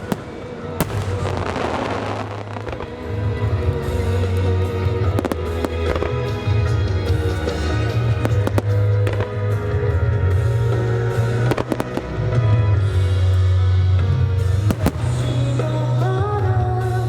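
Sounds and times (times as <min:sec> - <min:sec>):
fireworks bursting: 0:00.0 - 0:12.5, 0:14.5 - 0:16.4
music with deep bass: 0:00.0 - 0:17.0.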